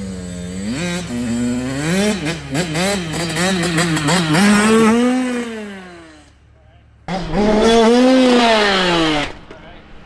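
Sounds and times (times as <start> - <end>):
dirt bike engine revving: 0.0 - 6.5, 7.1 - 10.0.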